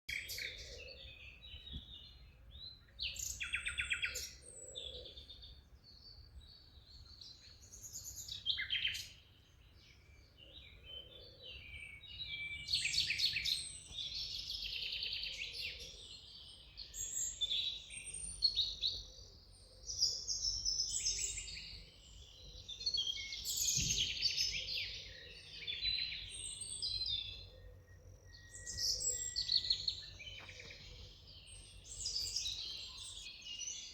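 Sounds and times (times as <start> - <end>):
songbirds singing and chirping: 0.0 - 33.9.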